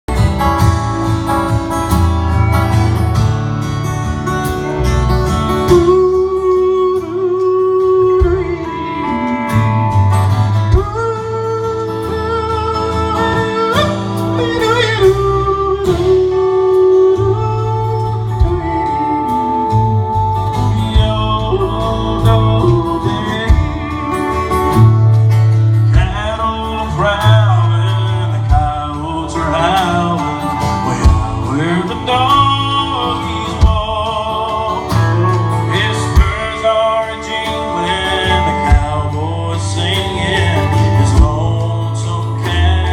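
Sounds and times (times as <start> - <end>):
acoustic guitar: 0.0 - 42.9
person singing slow melody: 5.5 - 42.9.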